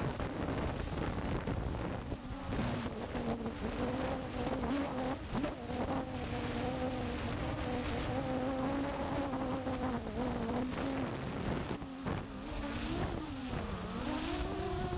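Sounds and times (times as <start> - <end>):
drone propellers humming: 0.0 - 14.9.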